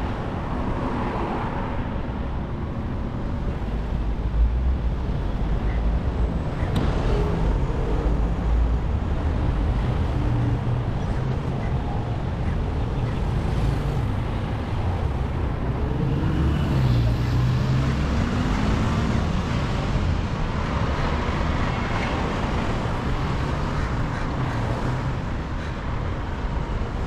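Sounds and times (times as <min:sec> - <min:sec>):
road traffic noise: 0:00.0 - 0:27.0.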